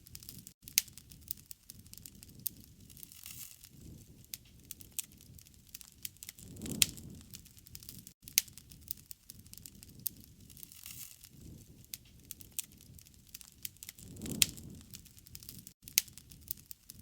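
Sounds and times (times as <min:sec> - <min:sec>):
campfire crackling and popping: 0:00.0 - 0:17.0
flames rushing: 0:01.1 - 0:16.6.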